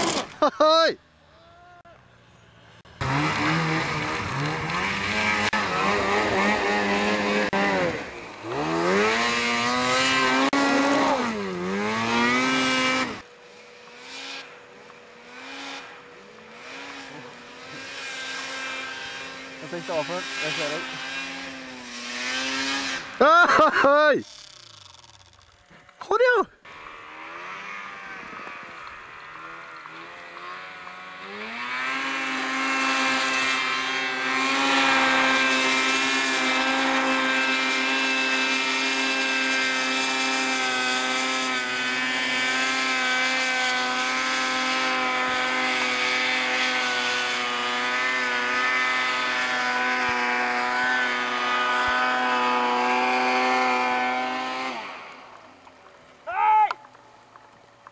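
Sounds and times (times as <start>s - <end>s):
snowmobile engine revving: 0.0s - 1.9s, 2.7s - 55.5s.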